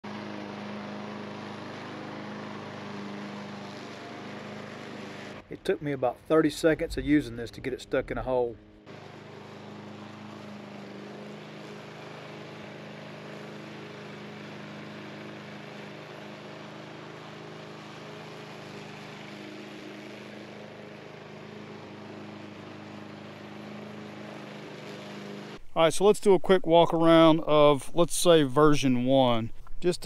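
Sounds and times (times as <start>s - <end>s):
distant lawn mower engine: 0.0s - 29.0s.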